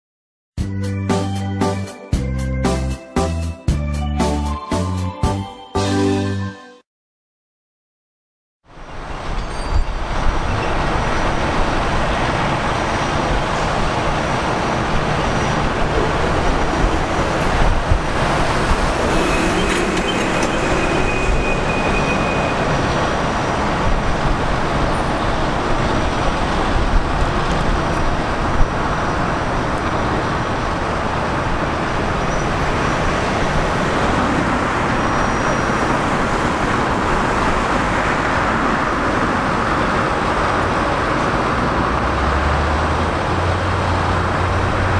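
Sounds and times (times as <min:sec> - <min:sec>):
road traffic: 0:08.6 - 0:44.9.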